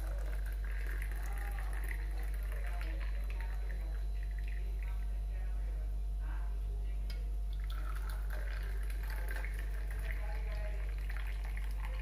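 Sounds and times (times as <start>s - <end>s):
tea pouring into a mug: 0.0s - 5.3s, 7.5s - 12.0s
steady low hum: 0.0s - 12.0s.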